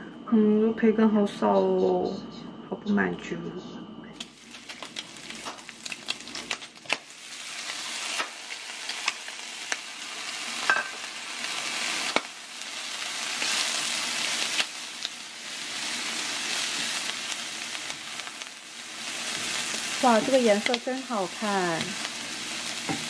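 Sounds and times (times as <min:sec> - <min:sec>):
bacon sizzling in a frying pan: 0:04.2 - 0:23.0.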